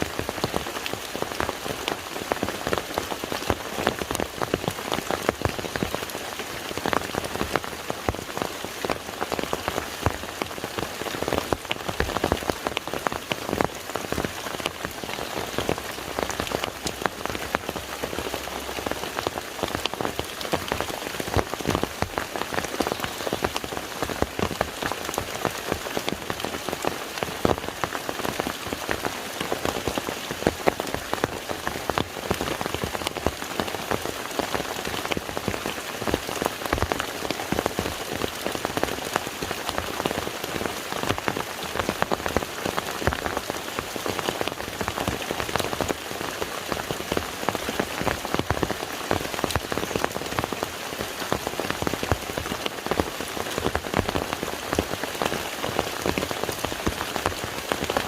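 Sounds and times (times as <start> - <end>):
rain pattering on water: 0.0 - 58.0.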